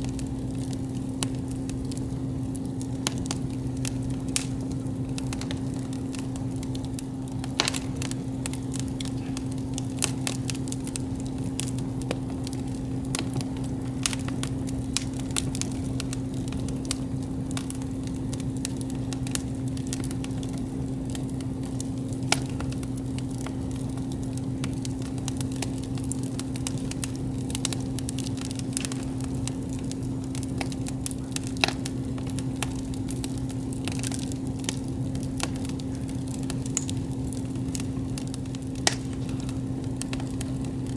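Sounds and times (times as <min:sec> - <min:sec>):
campfire crackling and popping: 0:00.0 - 0:40.9
steady low hum: 0:00.0 - 0:40.9.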